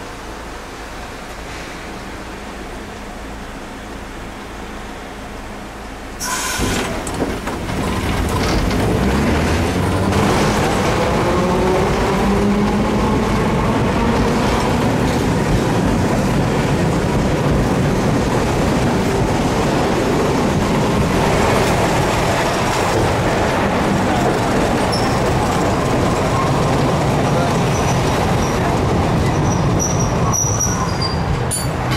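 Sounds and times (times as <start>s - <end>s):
tram wheels rumbling on rails: 0.0s - 31.9s.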